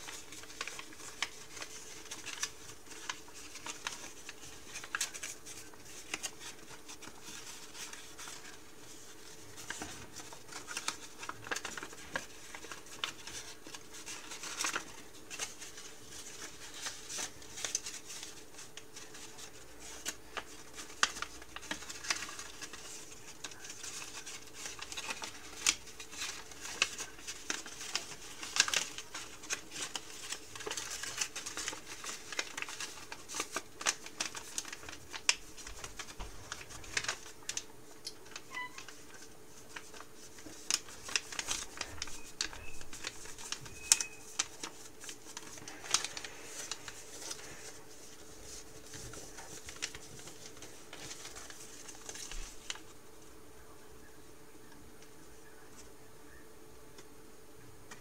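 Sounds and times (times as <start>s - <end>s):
paper rustling and crinkling: 0.0s - 53.4s.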